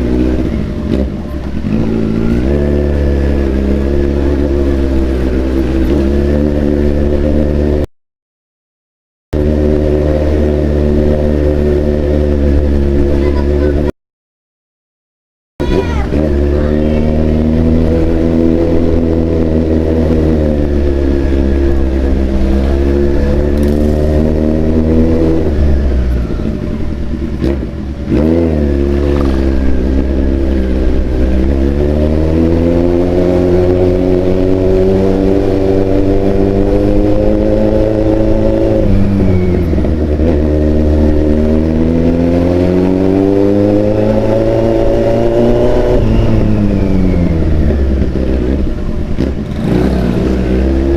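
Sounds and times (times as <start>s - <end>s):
motorcycle engine accelerating: 0.0s - 7.9s, 9.4s - 13.9s, 15.6s - 50.9s.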